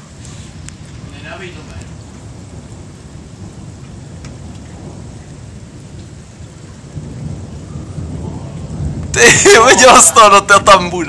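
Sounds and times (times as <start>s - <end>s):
steady rain falling: 0.0s - 11.0s
thunder rumbling low: 0.0s - 11.0s.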